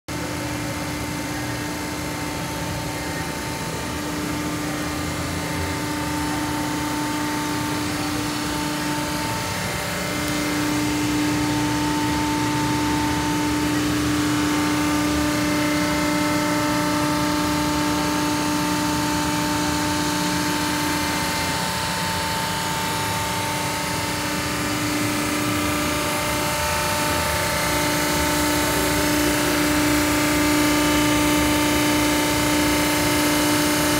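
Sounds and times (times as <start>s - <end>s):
press machine humming: 0.1s - 33.9s.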